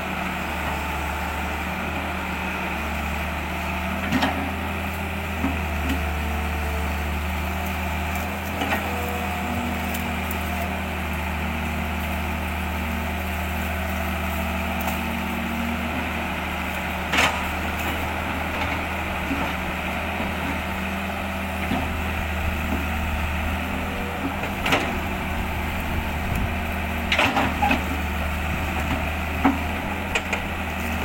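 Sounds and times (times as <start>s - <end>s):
low mechanical drone: 0.0s - 31.0s.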